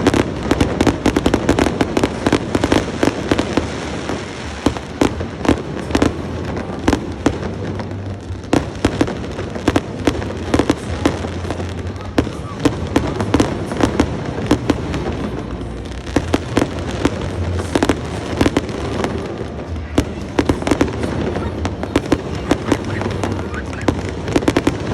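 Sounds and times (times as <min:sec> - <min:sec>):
fireworks bangs: 0:00.0 - 0:24.9.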